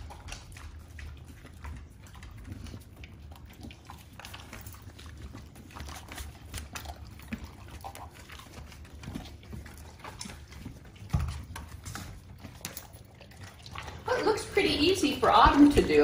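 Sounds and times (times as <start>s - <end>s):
dog claws clicking on tile: 0.0s - 14.1s.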